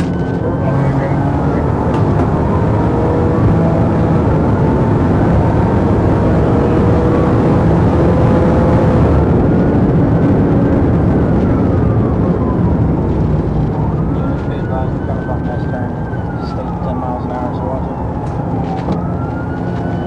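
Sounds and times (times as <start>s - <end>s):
car engine and tyre drone: 0.0s - 20.0s
faint rising and falling tone: 0.0s - 20.0s.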